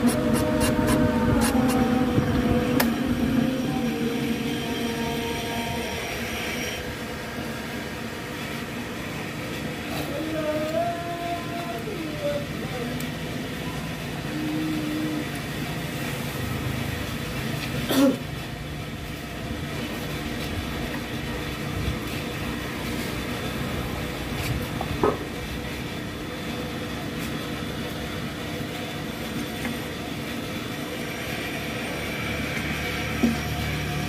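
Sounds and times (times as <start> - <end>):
boring machine humming: 0.0 - 34.0.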